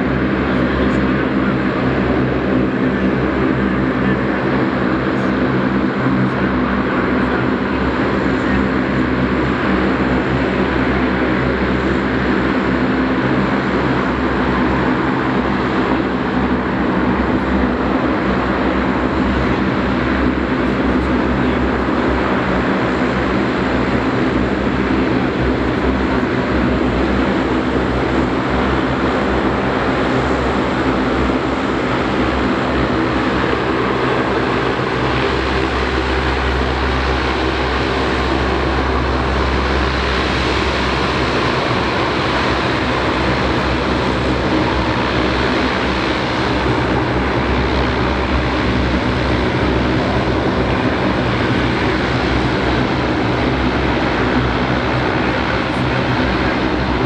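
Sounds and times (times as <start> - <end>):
turboprop aircraft taxiing: 0.0 - 57.0.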